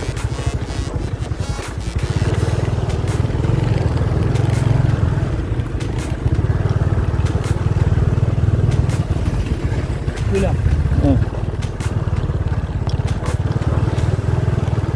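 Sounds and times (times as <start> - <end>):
sharp clicks and rattles: 0.0 - 14.9
small motorcycle engine running: 0.0 - 14.9.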